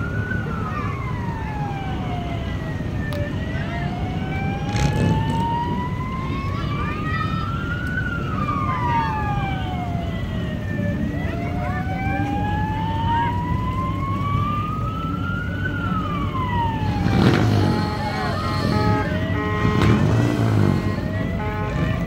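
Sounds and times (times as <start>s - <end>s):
siren wailing: 0.0s - 22.0s
vehicle engines rumbling: 0.0s - 22.0s.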